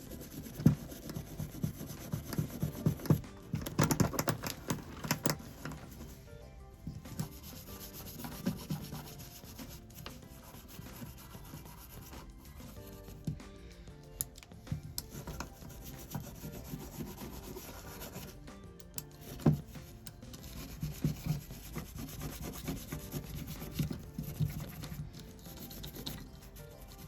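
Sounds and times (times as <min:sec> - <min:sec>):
faint music: 0:00.0 - 0:27.0.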